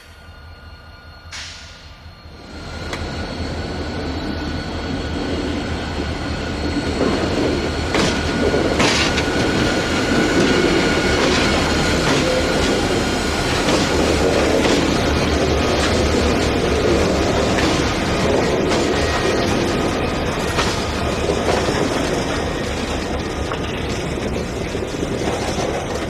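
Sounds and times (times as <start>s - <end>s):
freight train rolling past: 0.0s - 26.0s
high squeal from wheels: 0.0s - 26.0s.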